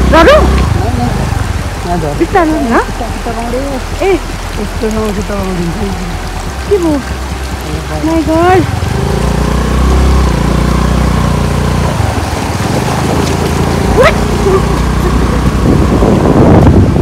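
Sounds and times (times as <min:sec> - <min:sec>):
scooter engine humming: 0:00.0 - 0:17.0.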